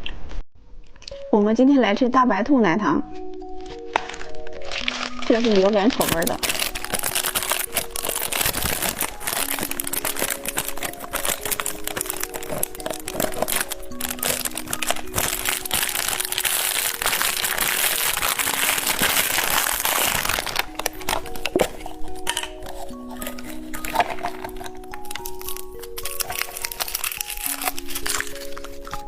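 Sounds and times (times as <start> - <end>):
simple background music: 0.6 - 29.0
candy wrapper crinkling: 3.6 - 29.0.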